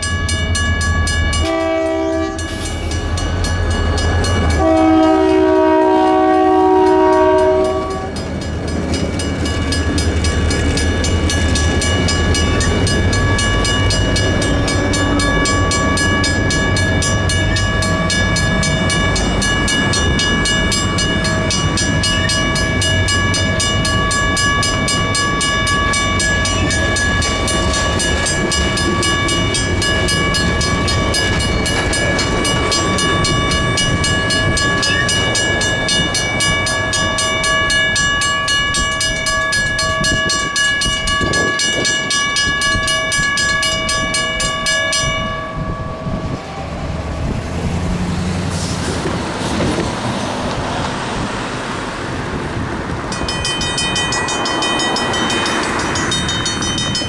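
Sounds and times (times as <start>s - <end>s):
railroad crossing bell ringing: 0.0s - 47.3s, 52.9s - 57.0s
passing train rumble: 0.0s - 57.0s.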